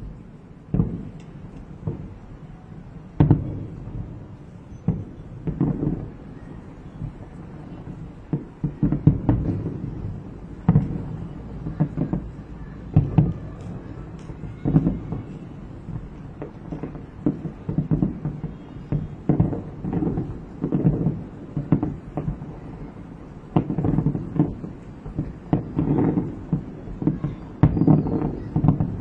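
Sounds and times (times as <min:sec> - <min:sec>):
distant fireworks booming: 0:00.0 - 0:29.0.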